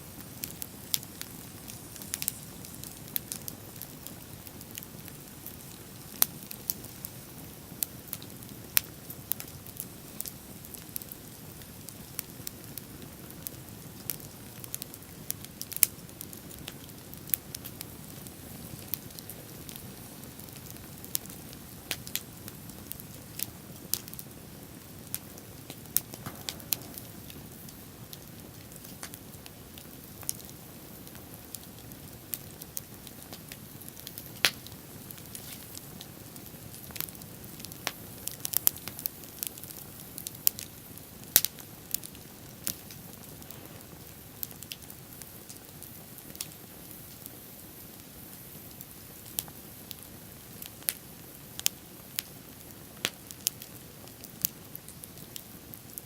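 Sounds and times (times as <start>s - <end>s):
bonfire crackling and popping: 0.0s - 56.0s.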